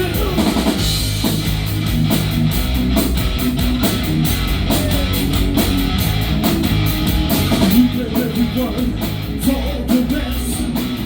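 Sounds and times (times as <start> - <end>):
drum kit beat: 0.0 - 11.0
electric guitar: 0.0 - 11.0.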